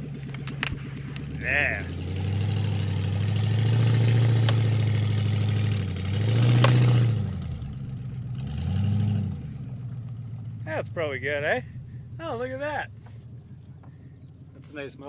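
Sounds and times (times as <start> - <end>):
pickup truck engine revving: 0.0 - 14.6.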